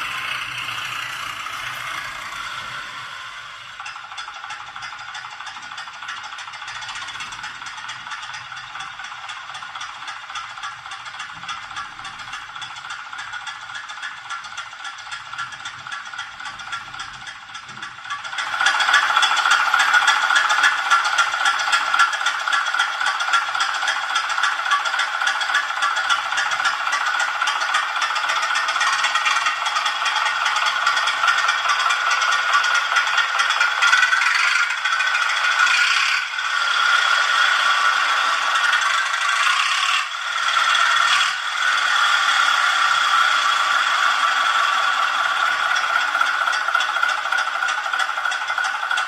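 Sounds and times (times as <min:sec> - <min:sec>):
engine sound through small speaker: 0:00.0 - 0:49.0.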